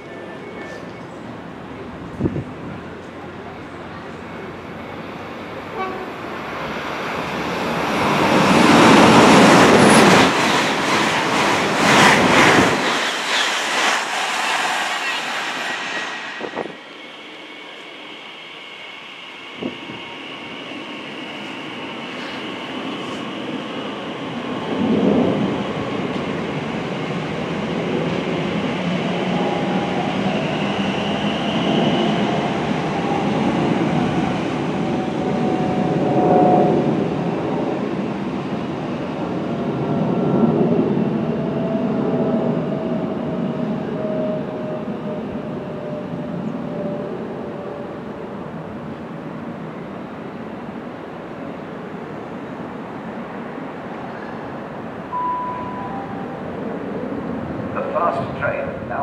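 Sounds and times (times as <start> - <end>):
train wheels rumbling on rail: 0.0 - 55.2.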